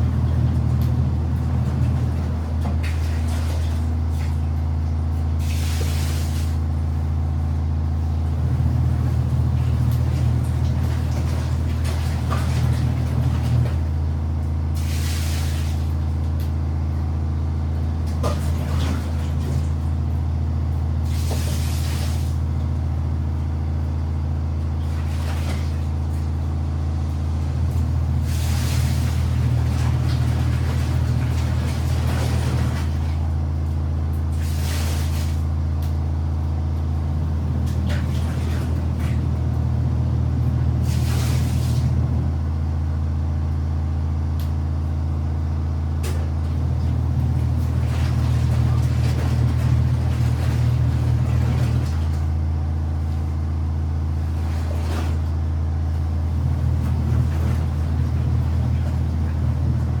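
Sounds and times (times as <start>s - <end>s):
washing machine motor humming: 0.0s - 60.0s.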